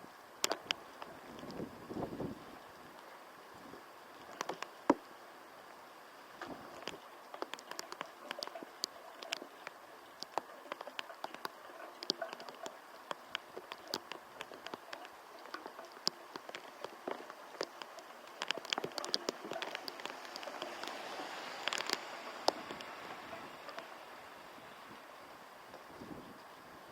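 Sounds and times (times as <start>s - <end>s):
rain drops tapping on a surface: 0.0s - 26.9s
steady rain hiss: 0.0s - 26.9s.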